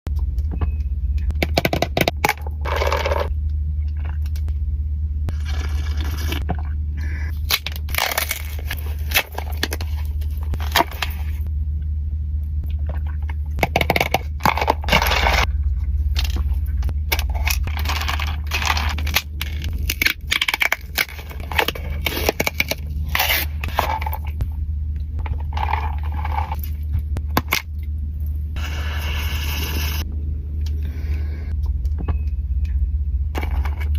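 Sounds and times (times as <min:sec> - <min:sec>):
low hum: 0:00.1 - 0:33.9.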